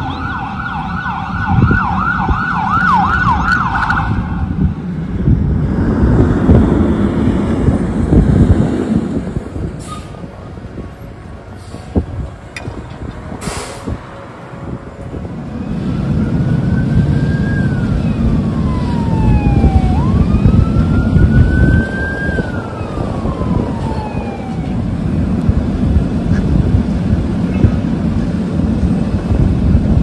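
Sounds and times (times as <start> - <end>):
emergency siren wailing: 0.0 - 12.4, 14.1 - 30.0
heavy low rumble: 0.0 - 30.0.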